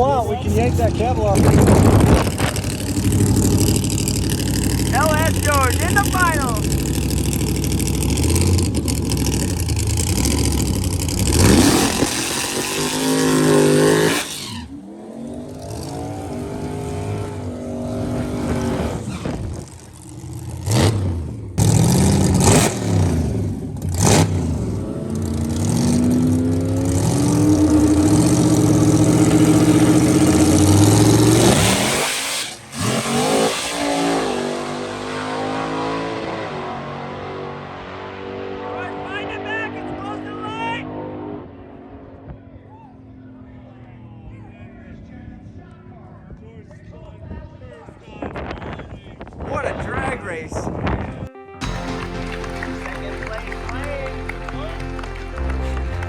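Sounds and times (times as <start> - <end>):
race car engines revving: 0.0 - 50.9, 51.6 - 56.0.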